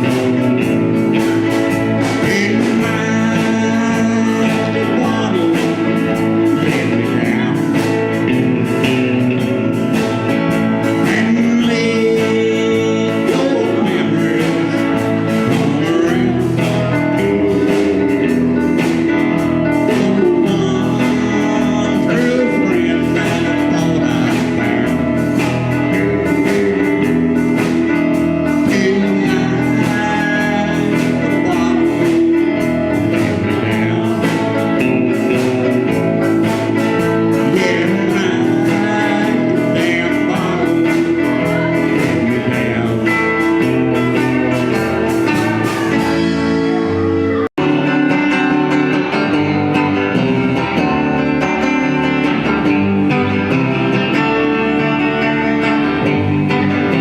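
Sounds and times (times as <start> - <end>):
band music: 0.0 - 57.0
bass line: 0.0 - 57.0
guitar: 0.0 - 57.0
person singing: 0.0 - 57.0.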